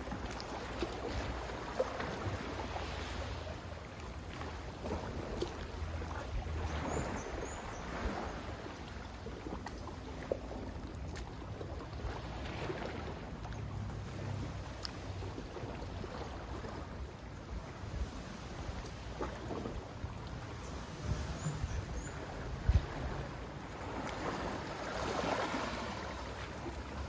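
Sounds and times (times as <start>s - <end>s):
sea waves washing in: 0.0s - 9.1s, 10.0s - 27.0s.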